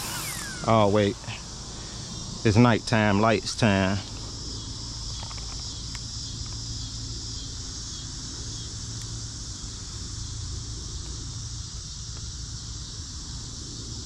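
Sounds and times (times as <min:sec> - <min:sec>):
insects chirring: 0:00.0 - 0:14.0
low steady hum: 0:00.0 - 0:14.0.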